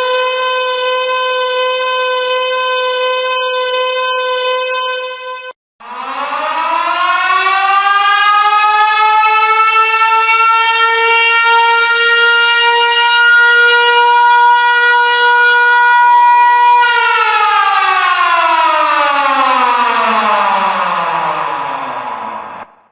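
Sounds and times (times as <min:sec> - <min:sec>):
siren: 0:00.0 - 0:22.9.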